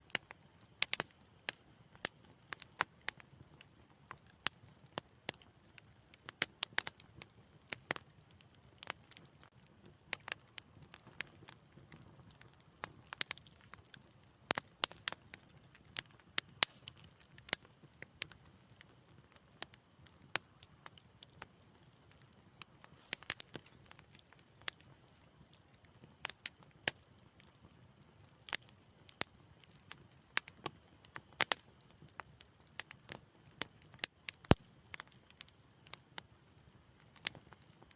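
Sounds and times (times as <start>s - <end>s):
low hiss of burning: 0.0s - 37.9s
wood fire crackling: 0.0s - 37.9s.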